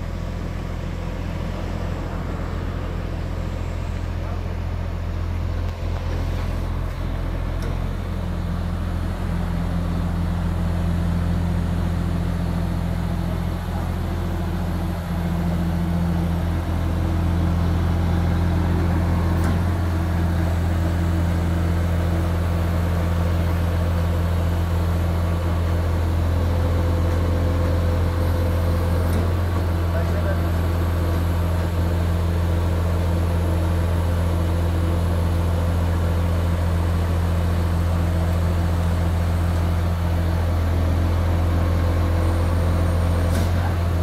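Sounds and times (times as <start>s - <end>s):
truck diesel engine running: 0.0s - 44.0s.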